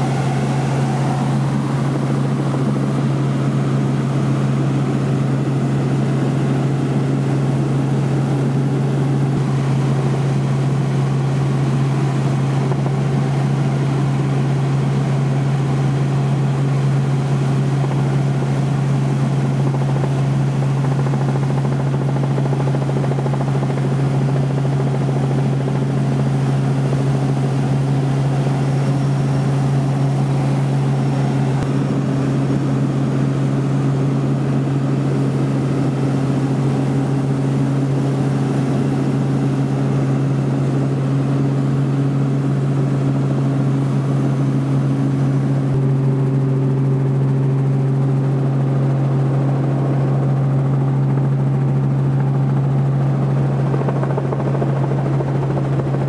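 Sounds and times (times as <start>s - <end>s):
helicopter drone inside cabin: 0.0s - 56.0s.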